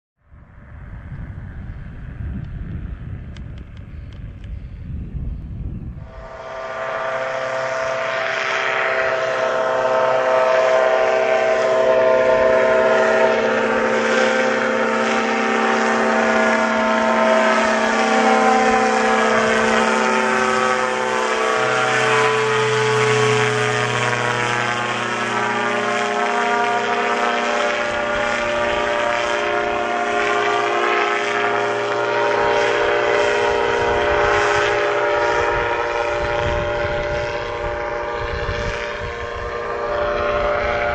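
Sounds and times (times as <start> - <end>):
propeller engine droning: 0.2 - 40.9.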